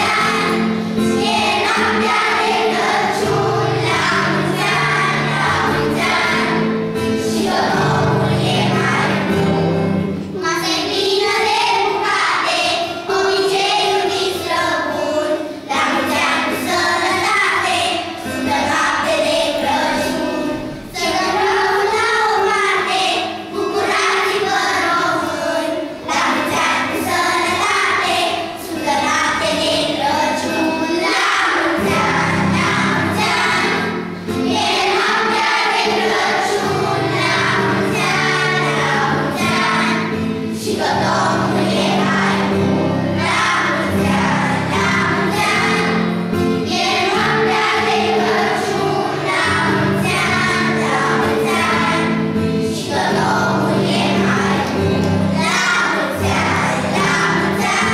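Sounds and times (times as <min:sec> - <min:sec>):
children singing in chorus: 0:00.0 - 0:57.9.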